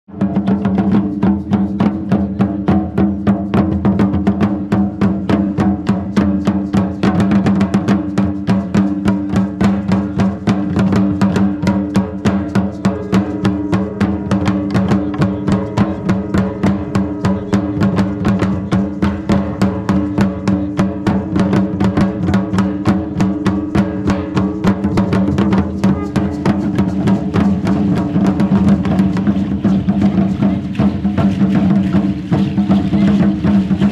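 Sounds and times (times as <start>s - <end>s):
drum beating fast rhythm: 0.1s - 33.9s.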